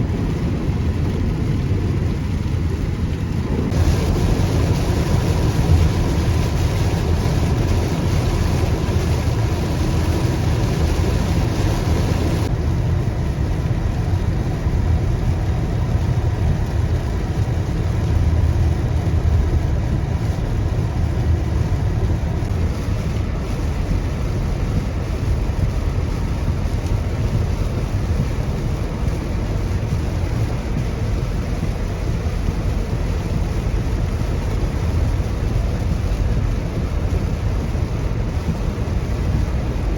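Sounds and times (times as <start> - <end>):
car driving rumble: 0.0 - 39.9
rain noise: 0.0 - 39.9
road noise: 0.0 - 39.9.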